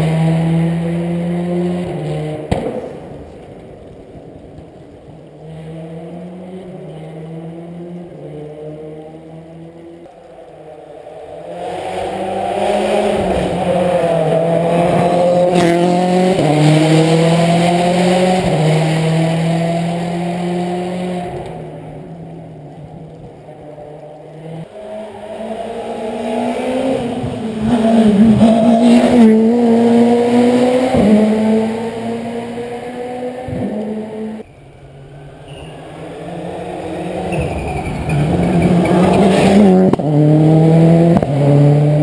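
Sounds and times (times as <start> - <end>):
rally car engine revving: 0.0 - 34.4, 35.3 - 42.0.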